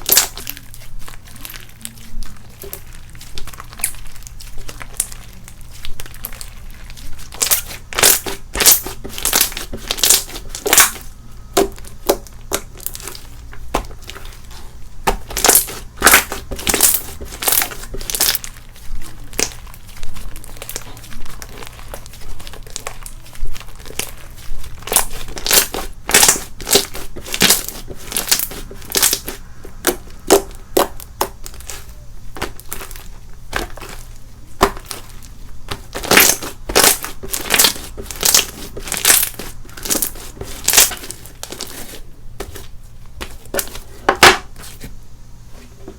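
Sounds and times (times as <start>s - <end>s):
slime squishing and popping: 0.0s - 41.8s.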